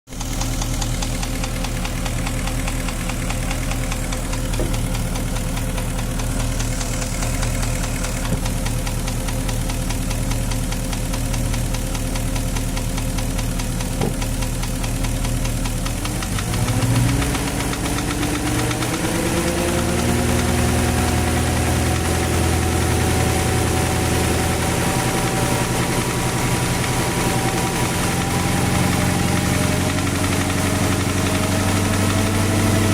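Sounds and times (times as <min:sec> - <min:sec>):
car engine idling with knock: 0:00.1 - 0:32.9.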